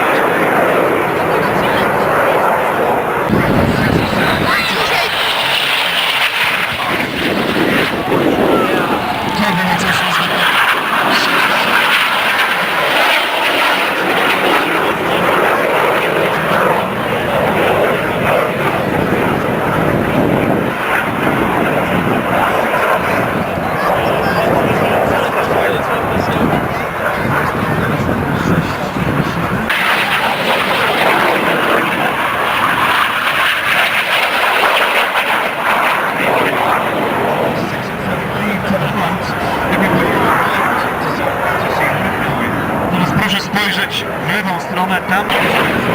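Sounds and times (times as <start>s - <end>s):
jet engines flying overhead: 0.0s - 45.9s.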